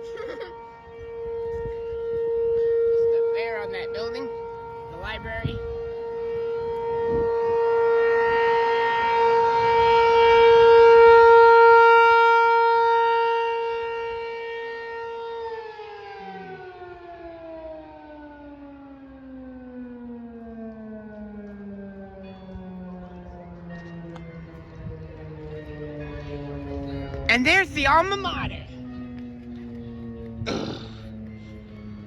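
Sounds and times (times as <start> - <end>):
tornado warning siren: 0.0 - 32.0.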